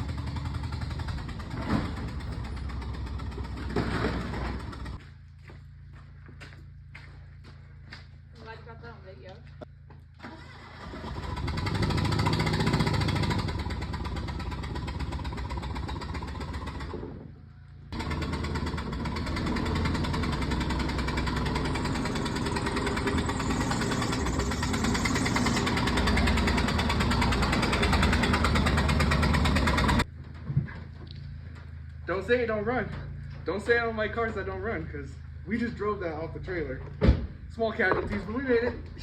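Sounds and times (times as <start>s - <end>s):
engine running rough: 0.0s - 8.4s, 9.4s - 39.0s.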